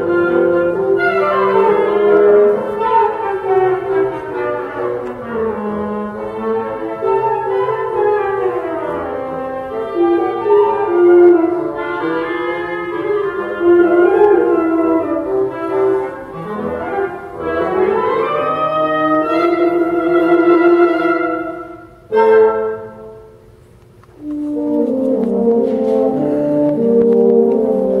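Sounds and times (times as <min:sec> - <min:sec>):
woodwind quintet chamber music: 0:00.0 - 0:28.0.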